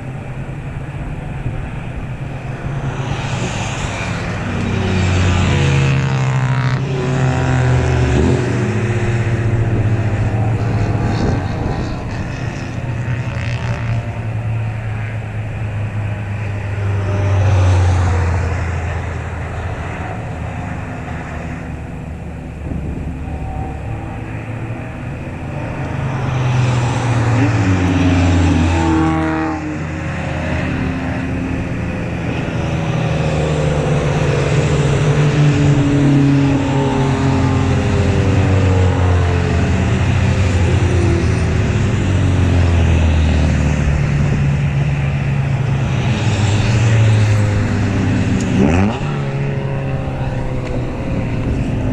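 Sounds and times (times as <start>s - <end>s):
race cars passing by: 0.0s - 51.9s.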